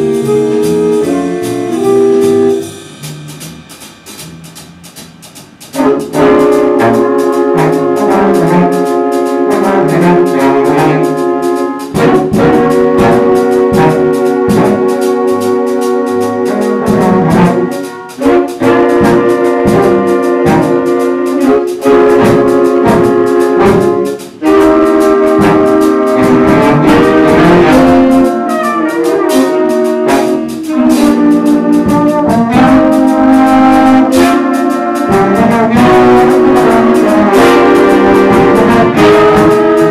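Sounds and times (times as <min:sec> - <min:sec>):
brass section jazz ballad chords: 0:00.0 - 0:39.9.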